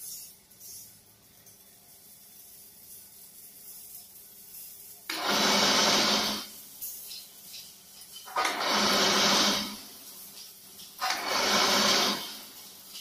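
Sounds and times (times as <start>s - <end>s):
wire scraping on concrete: 2.3s - 13.0s.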